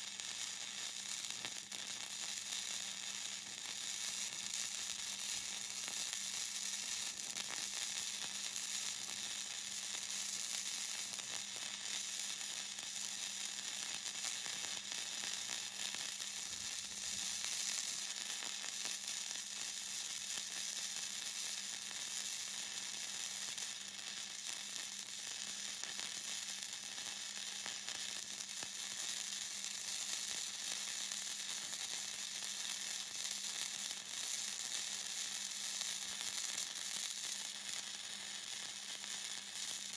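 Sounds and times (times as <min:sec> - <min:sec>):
welder crackling sizzle: 0:00.0 - 0:39.9.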